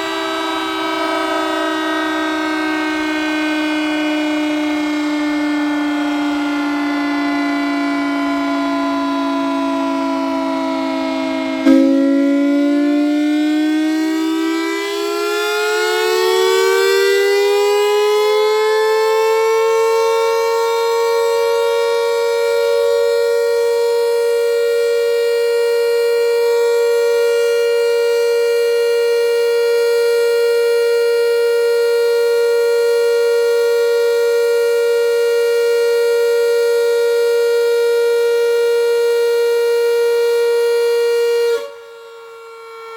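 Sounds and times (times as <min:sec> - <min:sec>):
civil defense siren: 0:00.0 - 0:42.9.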